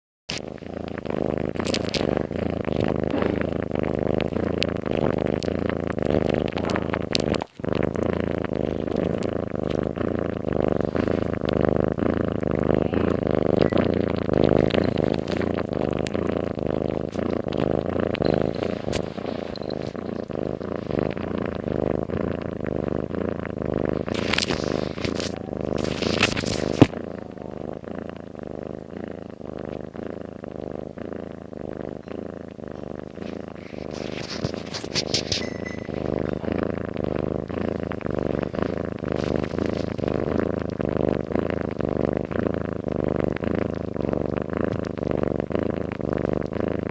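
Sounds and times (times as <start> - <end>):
cat snoring purr: 0.3 - 46.9.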